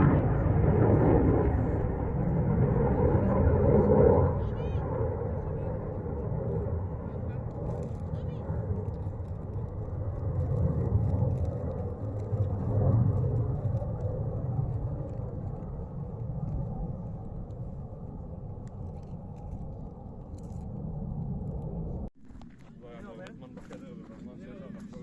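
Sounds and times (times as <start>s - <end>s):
low rumbling noise: 0.0s - 25.0s.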